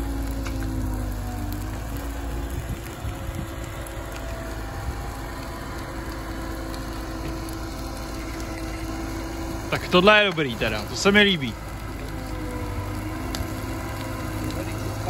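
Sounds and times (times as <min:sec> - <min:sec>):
brush crackling in fire: 0:00.0 - 0:15.0
diesel excavator engine running: 0:00.0 - 0:15.0.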